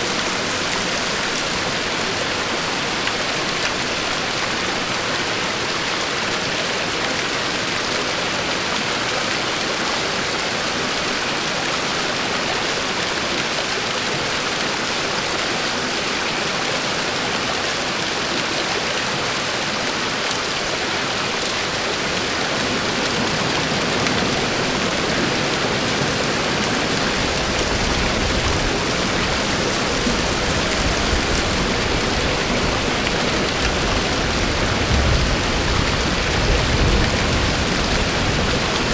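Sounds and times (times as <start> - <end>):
rushing waterfall and stream: 0.0 - 38.9.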